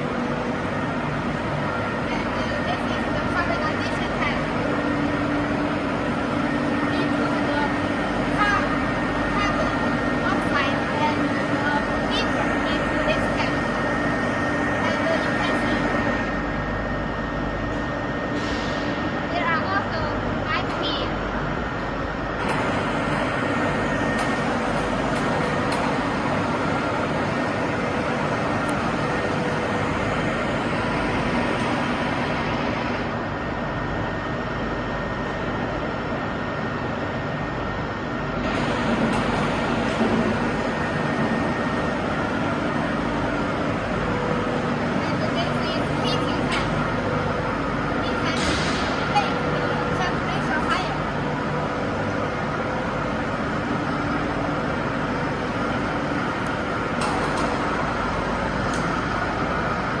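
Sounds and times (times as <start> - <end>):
factory machinery running: 0.0 - 60.0.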